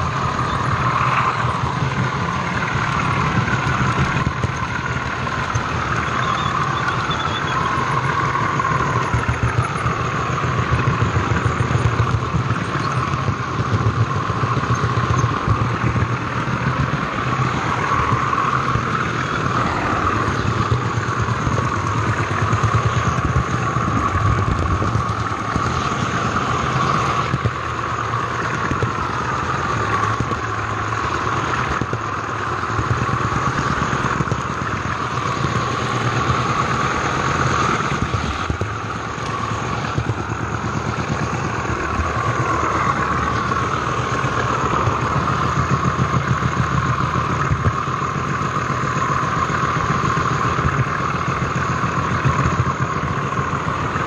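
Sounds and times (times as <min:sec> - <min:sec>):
wheels clattering on rails: 0:00.0 - 0:54.0.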